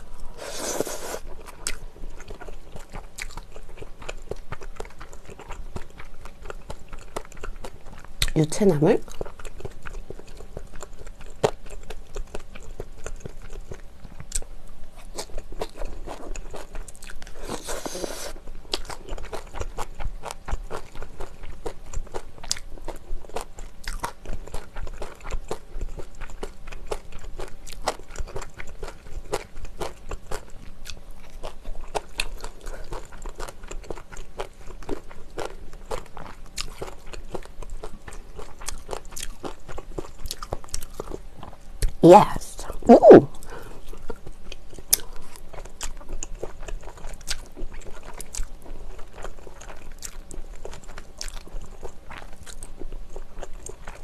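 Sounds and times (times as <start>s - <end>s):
wet chewing and crunching: 0.0s - 42.0s, 43.3s - 54.0s.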